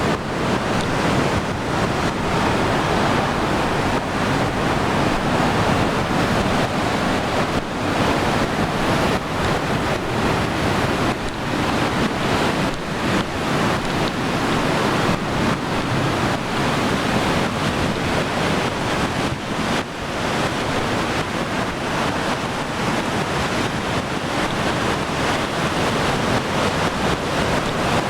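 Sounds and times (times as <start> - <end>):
sea waves washing: 0.0 - 28.0
wind on microphone: 0.0 - 28.0.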